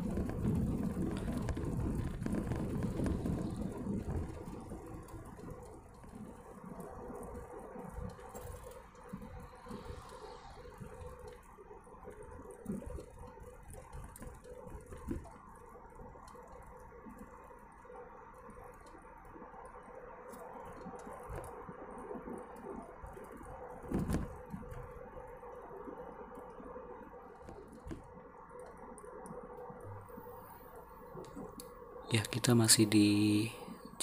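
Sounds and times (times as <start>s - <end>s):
car engine and road drone: 0.0s - 32.9s
steady hum: 0.0s - 34.0s.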